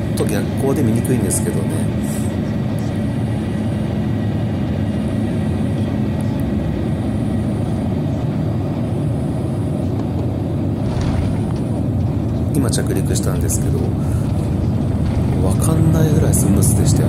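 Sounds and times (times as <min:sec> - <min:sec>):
aircraft engine and airflow rumble: 0:00.0 - 0:17.0.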